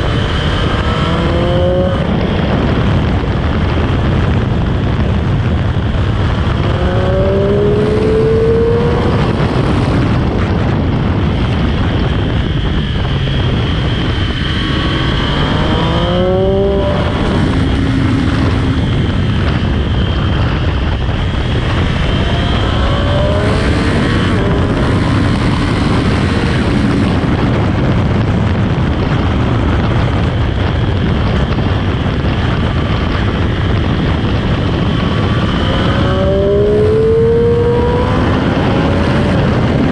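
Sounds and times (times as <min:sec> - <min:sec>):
heavy wind rush: 0:00.0 - 0:39.9
motorcycle engine accelerating: 0:00.0 - 0:39.9.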